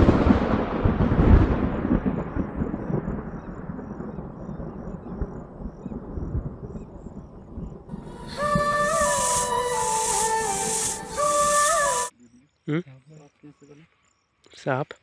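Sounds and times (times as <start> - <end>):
thunder rumble: 0.0 - 12.1.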